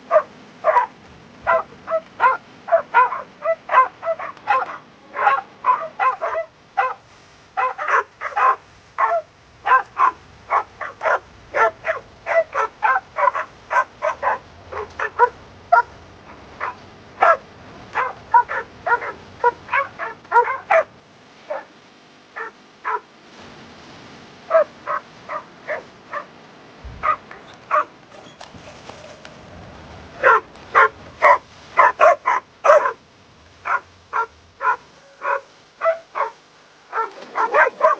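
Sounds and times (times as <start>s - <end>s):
dog barking and yipping: 0.0s - 7.0s, 7.6s - 21.7s, 22.4s - 23.1s, 24.5s - 26.3s, 27.0s - 28.4s, 30.2s - 33.0s, 33.6s - 37.9s.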